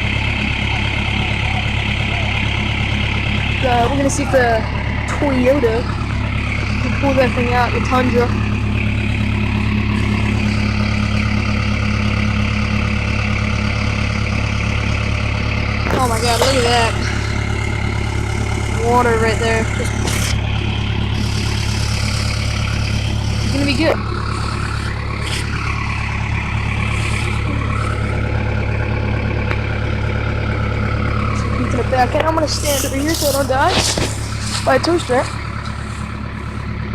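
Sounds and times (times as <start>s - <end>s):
engine idling: 0.0s - 36.9s.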